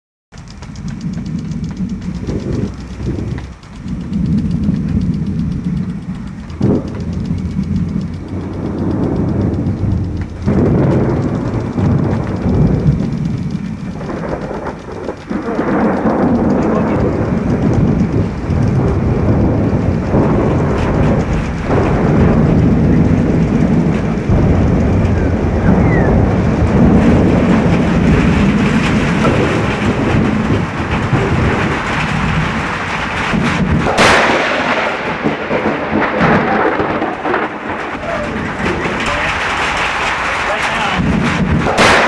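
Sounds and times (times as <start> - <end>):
steady rain: 0.3 - 42.0
thunder rumbling: 0.4 - 42.0
loud lightning crack: 0.7 - 42.0.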